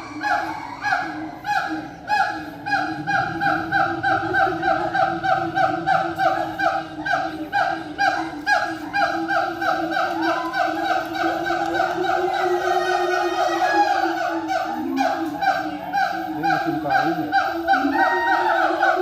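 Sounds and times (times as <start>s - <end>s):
siamangs hooting: 0.0s - 19.0s.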